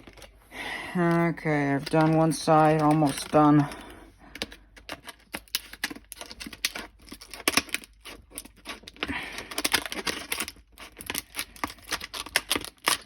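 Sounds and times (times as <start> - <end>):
plastic packaging clicking and crackling: 0.0 - 13.0.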